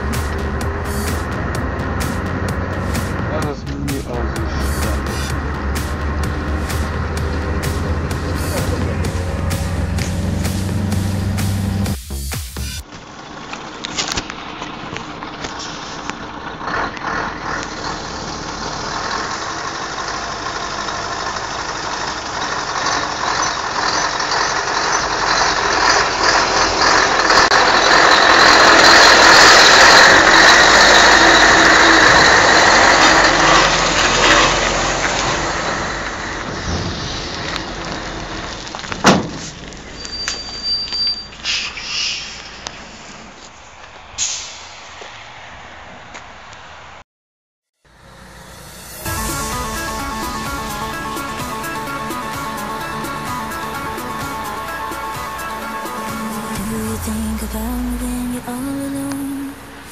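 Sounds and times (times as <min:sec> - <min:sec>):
diesel truck engine running: 0:00.0 - 0:41.6, 0:47.9 - 0:59.9.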